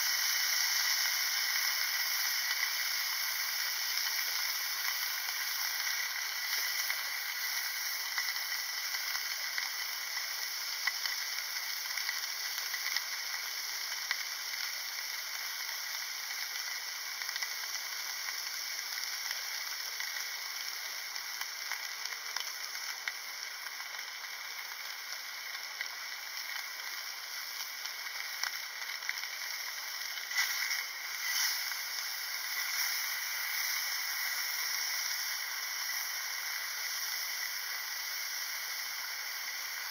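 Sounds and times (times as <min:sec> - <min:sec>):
beef sizzling in a frying pan: 0:00.0 - 0:39.9.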